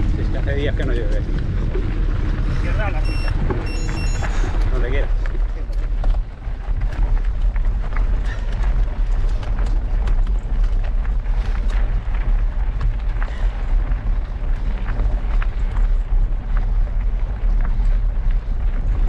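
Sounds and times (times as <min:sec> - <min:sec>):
tyres crunching over stones: 0:00.0 - 0:19.0
wind rumbling on microphone: 0:00.0 - 0:19.0.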